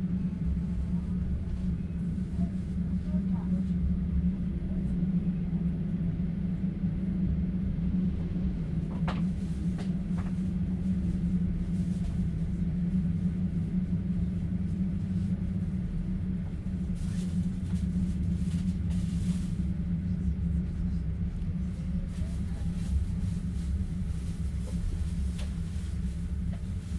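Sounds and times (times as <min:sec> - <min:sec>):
train running rumble: 0:00.0 - 0:26.9.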